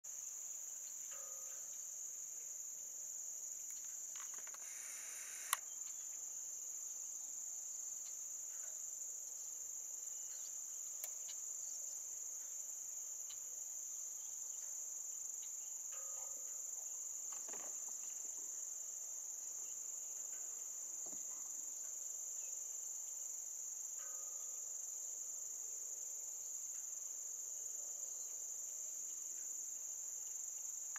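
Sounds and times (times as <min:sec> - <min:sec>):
crickets trilling: 0:00.1 - 0:30.9.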